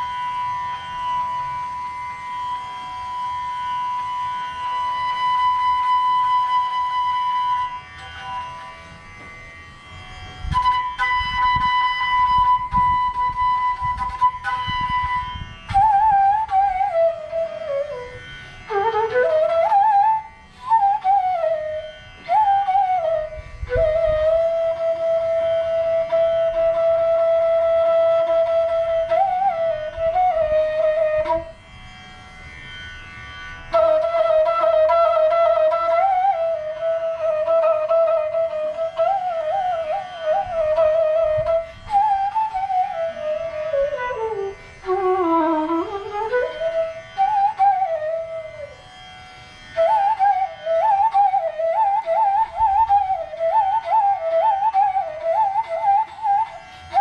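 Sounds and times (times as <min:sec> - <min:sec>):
bamboo flute playing: 0:00.0 - 0:57.0.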